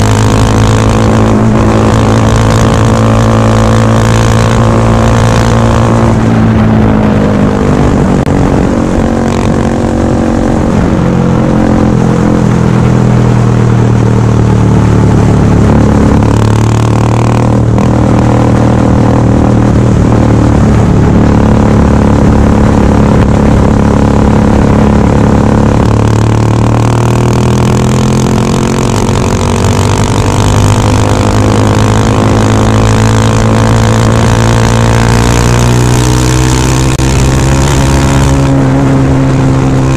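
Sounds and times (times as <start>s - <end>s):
loud motorcycle engine revving: 0.0s - 39.9s.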